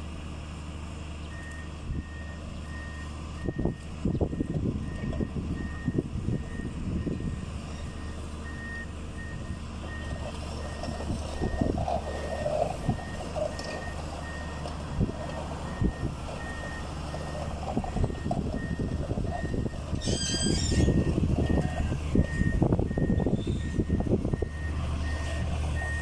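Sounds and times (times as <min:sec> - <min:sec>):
diesel engine running: 0:00.0 - 0:26.0
reversing alarm beeping: 0:01.3 - 0:26.0.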